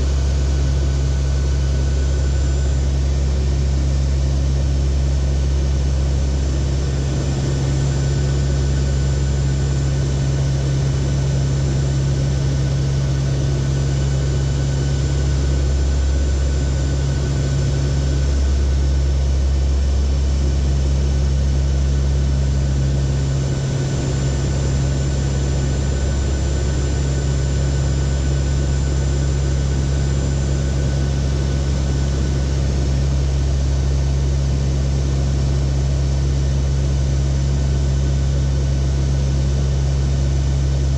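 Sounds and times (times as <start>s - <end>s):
turboprop engines droning: 0.0s - 40.9s.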